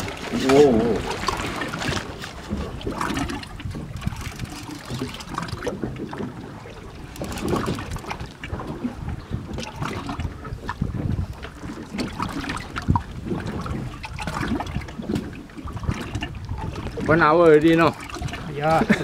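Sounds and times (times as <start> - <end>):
water lapping against hull: 0.0 - 19.0
wind buffeting microphone: 0.0 - 19.0.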